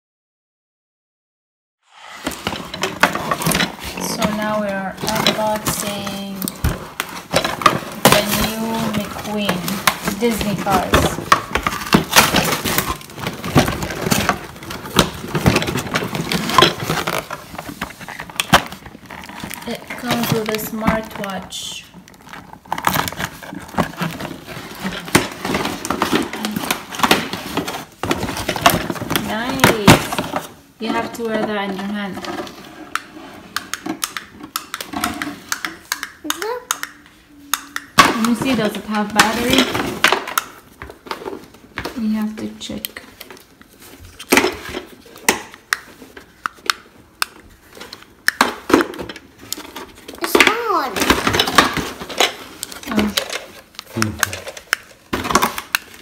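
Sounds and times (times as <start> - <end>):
cardboard packaging rustling: 1.9 - 36.6, 38.0 - 56.0.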